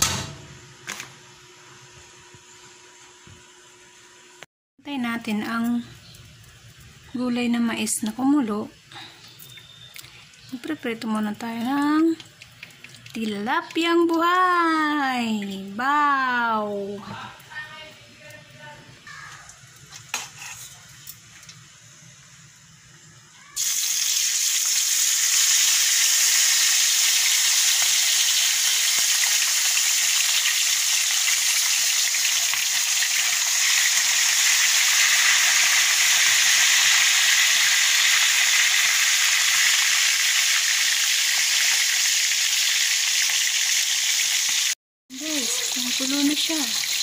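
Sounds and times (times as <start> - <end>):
fish sizzling in hot oil: 2.2 - 16.6, 23.4 - 47.0.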